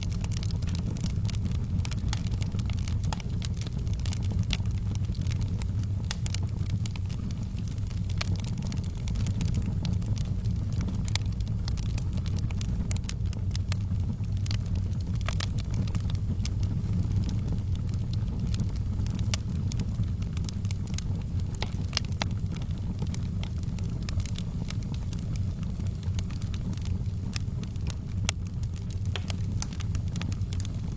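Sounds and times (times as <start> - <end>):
low steady rumble: 0.0 - 30.9
wood fire crackling and popping: 0.0 - 30.9.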